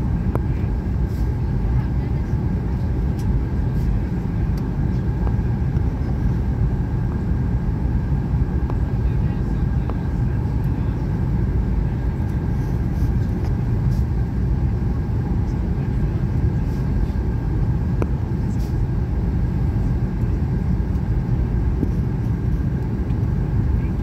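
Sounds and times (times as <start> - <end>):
faint steady whine: 0.0 - 24.0
jet engine rumble: 0.0 - 24.0.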